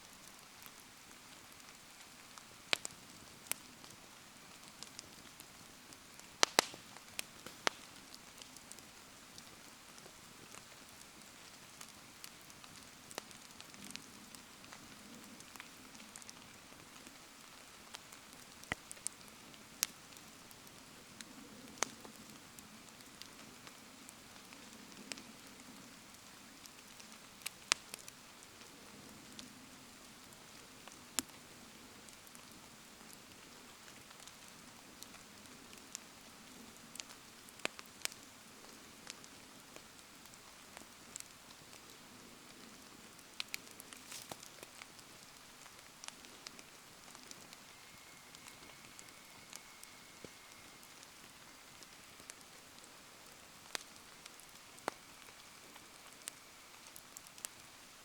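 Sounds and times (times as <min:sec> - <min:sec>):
rain falling: 0:00.0 - 0:58.0
wood bonfire crackling: 0:00.0 - 0:58.0.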